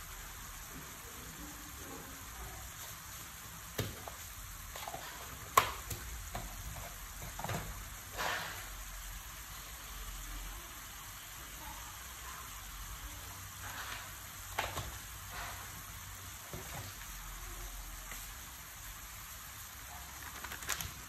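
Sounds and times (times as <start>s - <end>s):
greens sizzling in oil: 0.0s - 21.0s.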